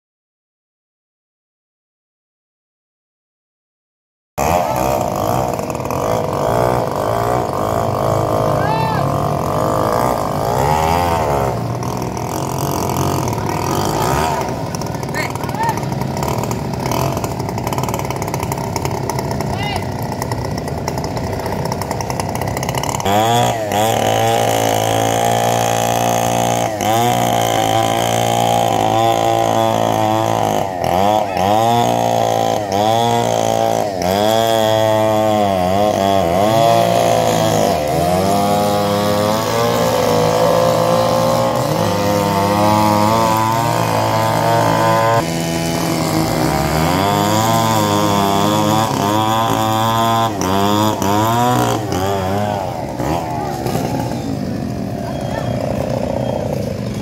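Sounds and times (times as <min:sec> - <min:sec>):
chainsaw cutting wood: 0:04.4 - 0:57.0.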